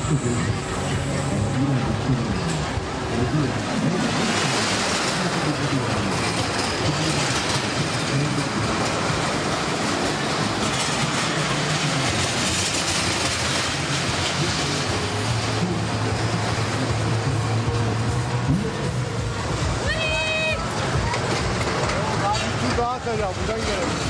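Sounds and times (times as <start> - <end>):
roller coaster wheels rattling: 0.0 - 24.0.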